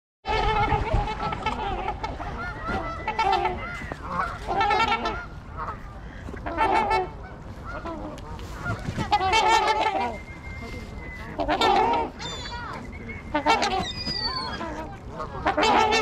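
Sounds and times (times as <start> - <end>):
geese honking: 0.3 - 16.0.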